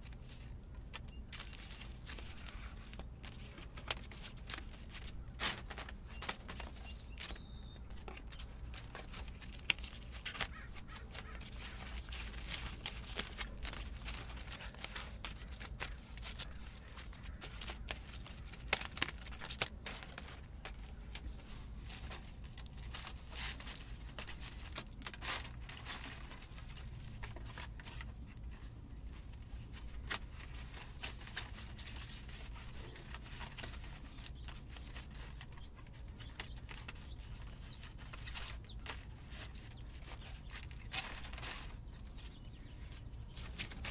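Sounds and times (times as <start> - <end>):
dry leaves rustling and crackling: 1.3 - 7.4, 8.0 - 28.1, 29.6 - 43.9.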